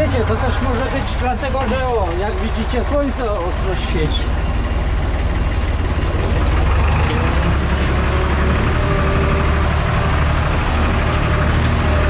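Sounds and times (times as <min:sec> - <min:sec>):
tractor engine droning under load: 0:00.0 - 0:12.0.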